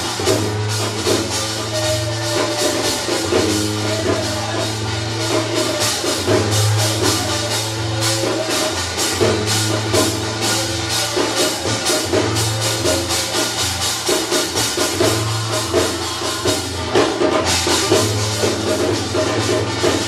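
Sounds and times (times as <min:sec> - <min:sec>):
drumming: 0:00.0 - 0:20.0
metal percussion beat: 0:00.0 - 0:20.0.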